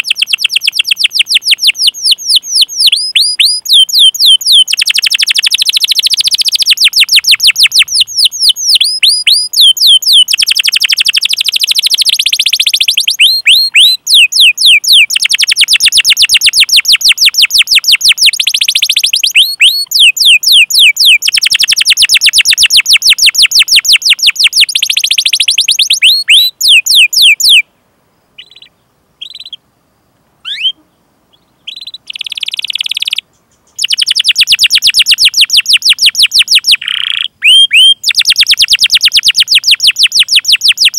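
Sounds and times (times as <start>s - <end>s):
canary chirps: 0.0s - 27.7s, 28.4s - 29.6s, 30.4s - 40.9s
canary singing rolling song: 0.0s - 40.9s.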